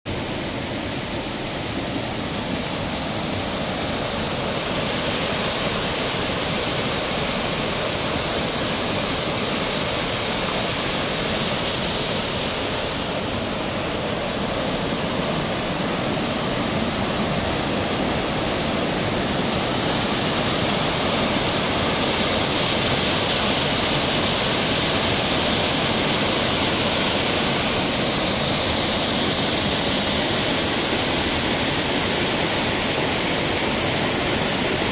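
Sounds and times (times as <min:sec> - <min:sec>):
waterfall rushing over rocks: 0:00.1 - 0:34.9.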